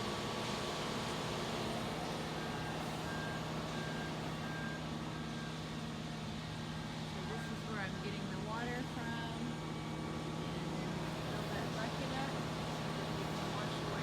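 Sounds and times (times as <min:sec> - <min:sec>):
diesel truck engine running: 0:00.0 - 0:14.0
back-up alarm beeping: 0:01.3 - 0:09.4, 0:10.6 - 0:14.0.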